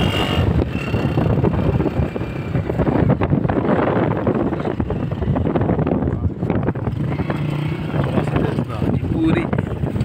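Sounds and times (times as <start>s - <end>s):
motorcycle engine running: 0.0s - 10.0s
wind rumble on microphone: 0.0s - 10.0s.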